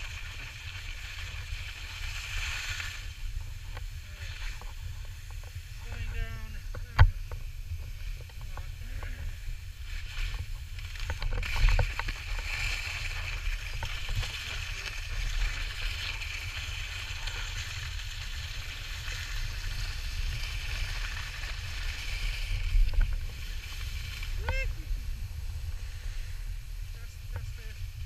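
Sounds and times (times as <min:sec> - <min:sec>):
skis hissing over snow: 0:00.0 - 0:06.7, 0:07.5 - 0:28.0.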